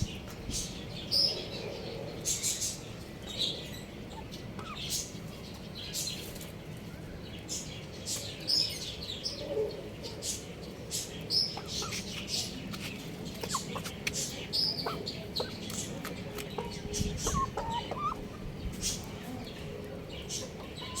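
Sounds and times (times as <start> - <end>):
young rooster chirping and clucking: 2.3 - 6.6, 7.4 - 21.0.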